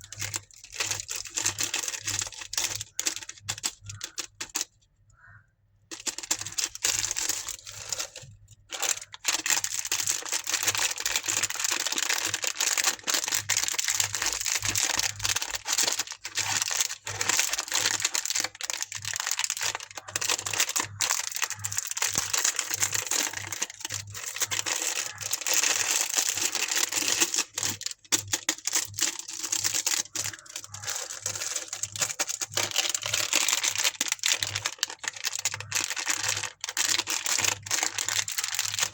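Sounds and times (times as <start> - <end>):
candy wrappers crinkling: 0.0 - 4.8, 5.9 - 38.9.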